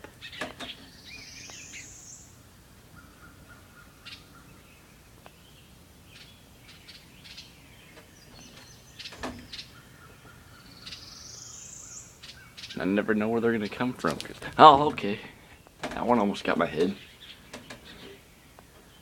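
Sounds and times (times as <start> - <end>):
small birds clicking calls: 0.0 - 2.4, 3.0 - 19.0.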